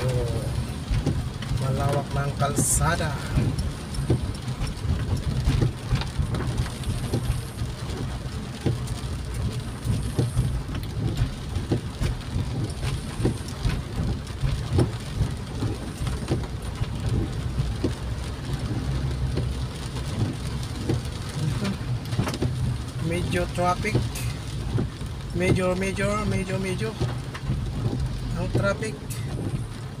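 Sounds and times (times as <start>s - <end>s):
rain tapping on windshield: 0.0s - 30.0s
vehicle rumble on wet road: 0.0s - 30.0s.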